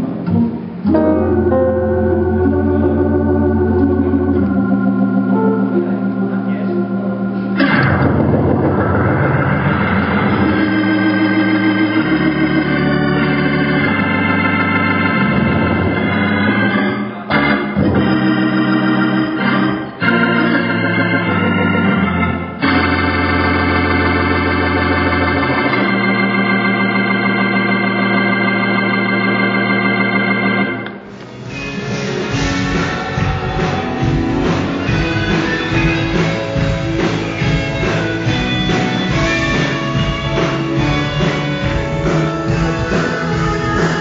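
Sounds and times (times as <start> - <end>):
organ chords: 0.0 - 44.0.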